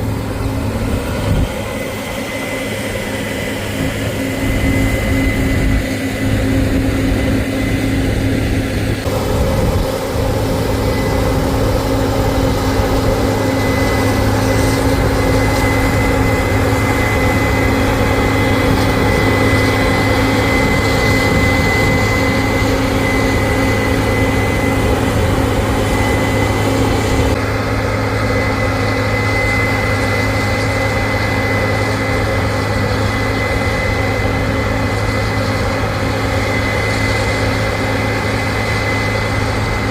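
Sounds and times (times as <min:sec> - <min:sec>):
combine harvester engine hum: 0:00.0 - 0:39.9
steady high whine: 0:00.0 - 0:39.9.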